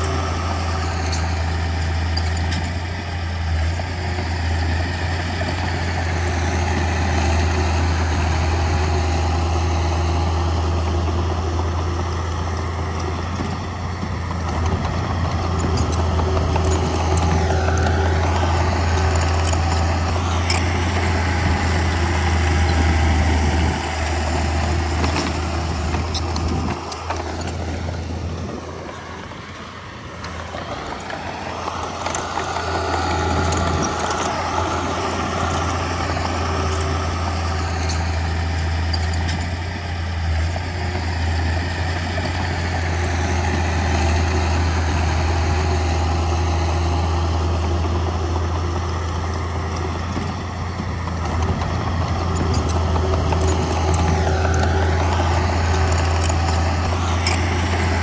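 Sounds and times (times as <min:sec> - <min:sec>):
diesel machinery engine droning: 0:00.0 - 0:58.0.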